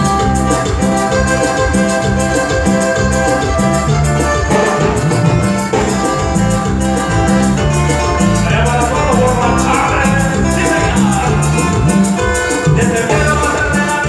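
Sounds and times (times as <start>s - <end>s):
live band playing latin dance music: 0.0s - 14.0s.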